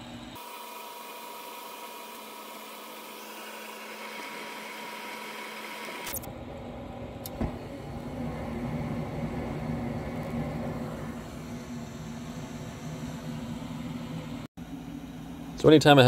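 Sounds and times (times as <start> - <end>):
furnace motor humming and whining: 0.0 - 16.0.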